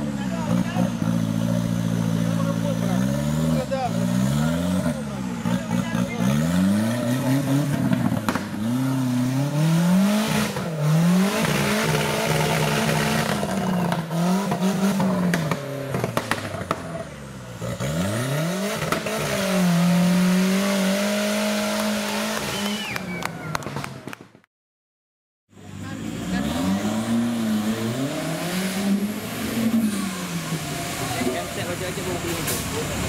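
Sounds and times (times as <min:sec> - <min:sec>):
buggy engine revving hard: 0:00.0 - 0:23.1, 0:25.7 - 0:33.0.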